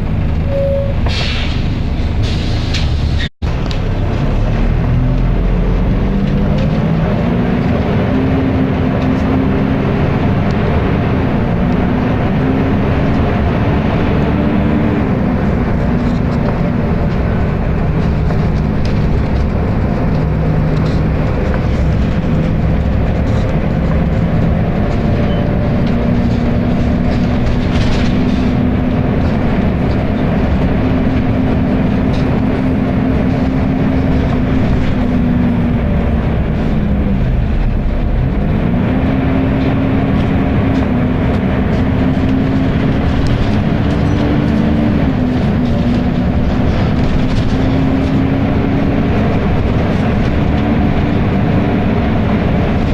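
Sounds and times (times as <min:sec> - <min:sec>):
bus diesel engine: 0:00.0 - 0:52.9.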